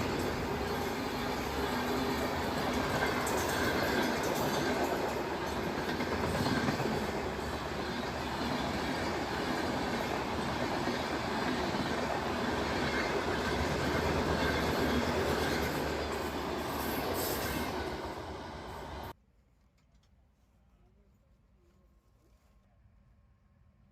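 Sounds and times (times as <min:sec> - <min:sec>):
electric train rumbling on rails: 0:00.0 - 0:19.2.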